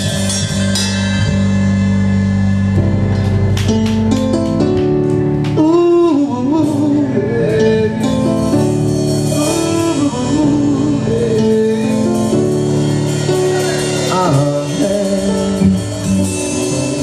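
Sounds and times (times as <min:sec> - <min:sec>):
live reggae band playing: 0:00.0 - 0:17.0.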